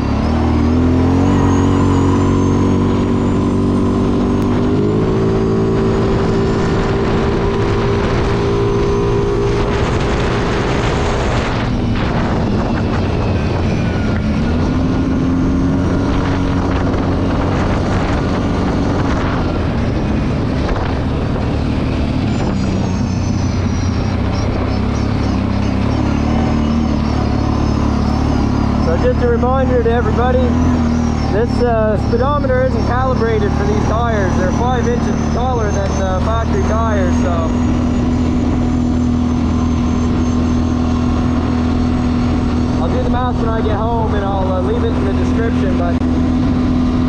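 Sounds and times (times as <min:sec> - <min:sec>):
engine pulling hard: 0:00.0 - 0:47.0
wind on microphone: 0:00.0 - 0:47.0.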